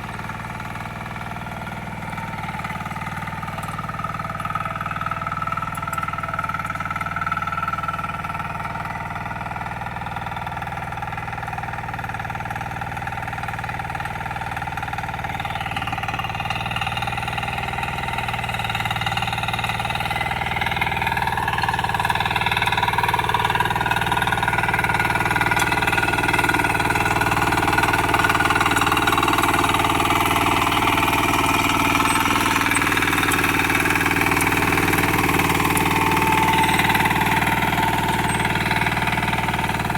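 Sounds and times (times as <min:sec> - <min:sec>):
diesel weeder engine running: 0:00.0 - 0:39.9.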